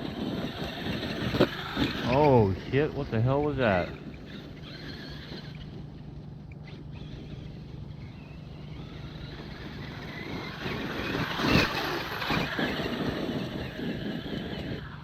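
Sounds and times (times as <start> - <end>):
rc truck driving over icy ground: 0.0 - 15.0.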